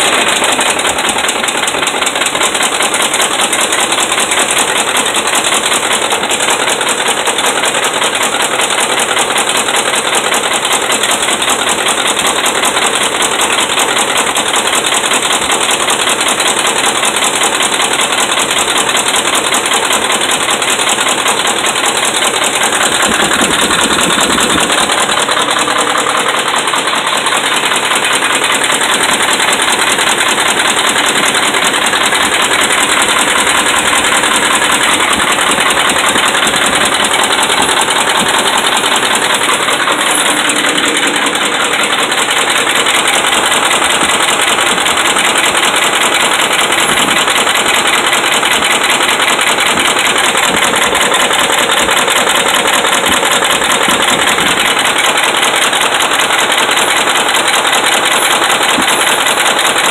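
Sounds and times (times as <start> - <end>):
rapid engine knocking: 0.0 - 59.9
truck engine idling: 0.0 - 59.9.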